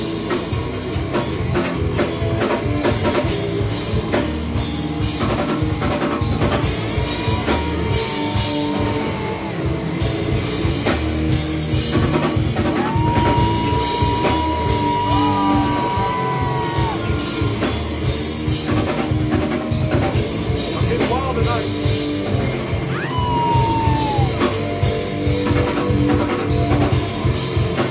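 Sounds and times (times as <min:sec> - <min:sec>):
busy drum kit: 0:00.0 - 0:27.9
rock band playing live: 0:00.0 - 0:27.9.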